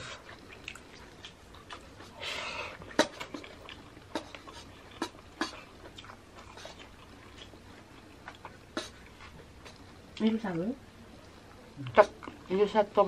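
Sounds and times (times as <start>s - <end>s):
chewing and mouth smacks: 0.2s - 10.3s, 11.2s - 12.5s.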